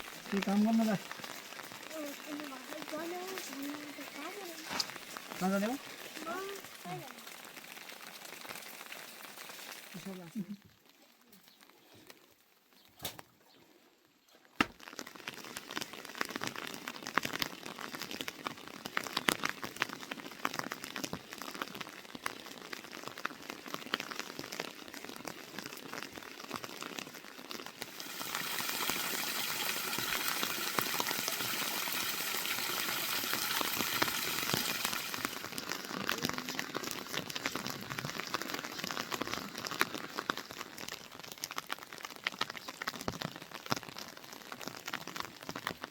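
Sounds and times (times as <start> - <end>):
rain pattering on surface: 0.0 - 12.9, 14.4 - 45.9.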